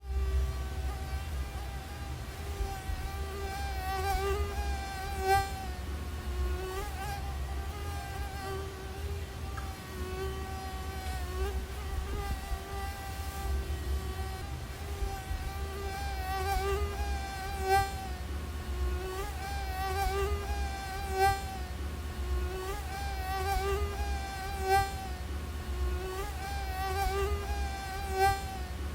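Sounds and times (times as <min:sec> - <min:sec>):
mosquito whine: 0:00.0 - 0:28.9
steady low hum: 0:00.0 - 0:28.9.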